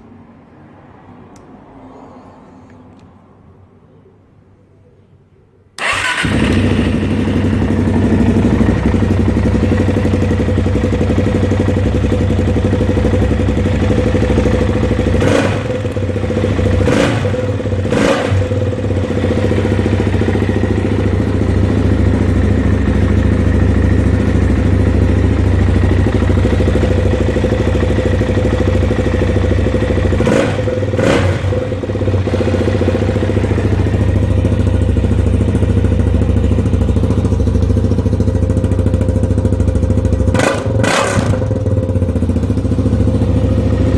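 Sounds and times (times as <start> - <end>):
quad bike engine running: 5.8 - 43.9.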